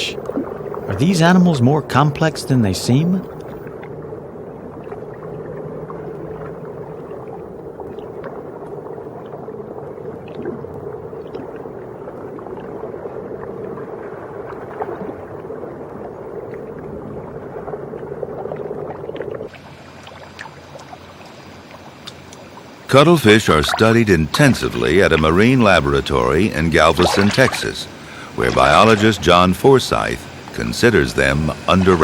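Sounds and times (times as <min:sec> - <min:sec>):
underwater rushing hum: 0:00.0 - 0:32.0.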